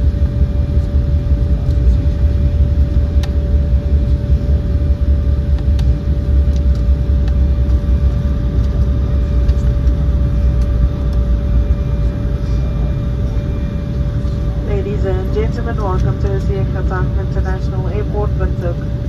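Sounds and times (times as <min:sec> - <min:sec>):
constant whine: 0:00.0 - 0:19.0
jet engines and wheels rumbling: 0:00.0 - 0:19.0.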